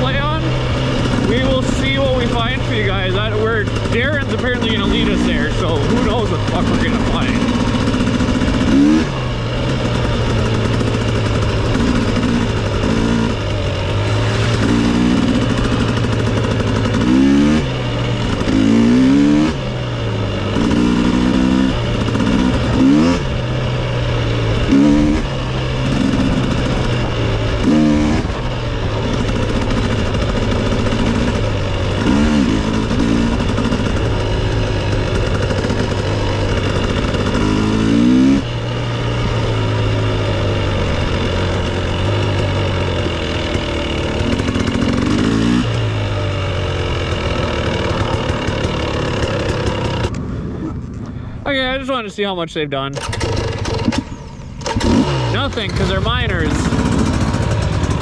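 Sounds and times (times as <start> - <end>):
dirt bike engine revving: 0.0 - 50.8, 52.9 - 58.0
wind: 0.0 - 58.0.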